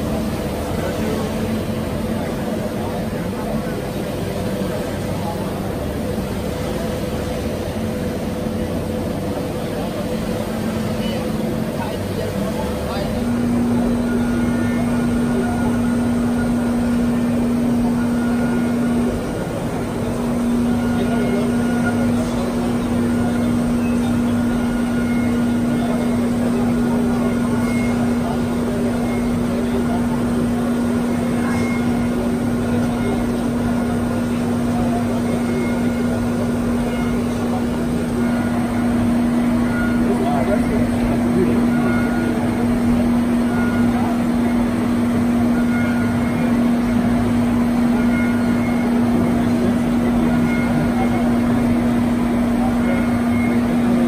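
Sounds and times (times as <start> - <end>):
milling machine hum: 0.0 - 54.0.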